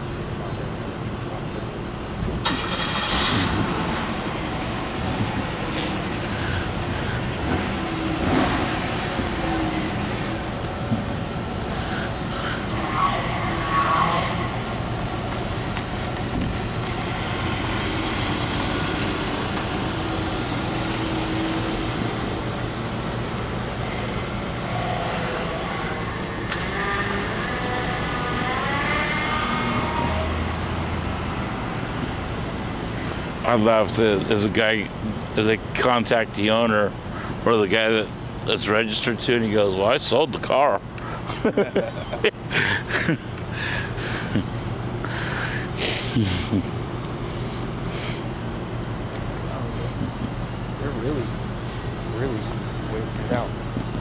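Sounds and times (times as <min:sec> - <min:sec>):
vehicle engines running: 0:00.0 - 0:54.0.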